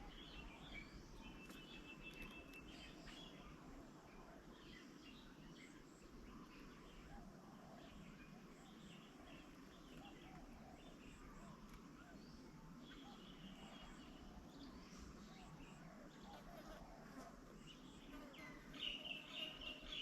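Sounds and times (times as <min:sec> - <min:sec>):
birds calling and chirping: 0:00.0 - 0:20.0.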